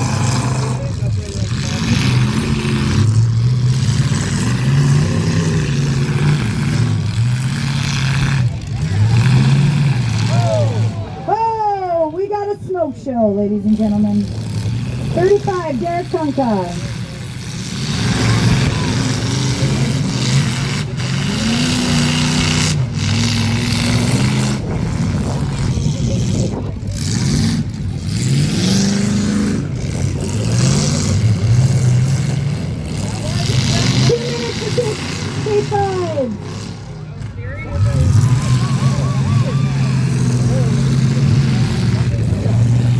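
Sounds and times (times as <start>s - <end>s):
cars ramming each other: 0.0s - 11.4s, 12.1s - 42.9s
car engines revving: 0.0s - 42.9s
continuous noisy din: 0.0s - 42.9s.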